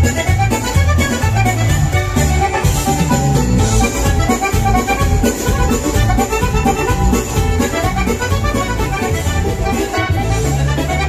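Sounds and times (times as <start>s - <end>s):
accordion playing dance music: 0.0s - 11.0s.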